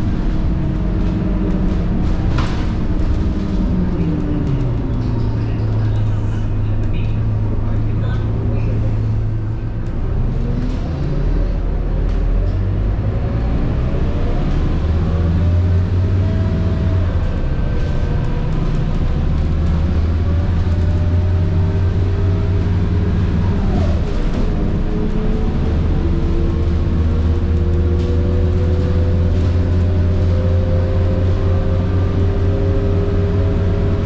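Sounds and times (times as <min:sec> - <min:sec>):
bus engine hum: 0:00.0 - 0:34.0.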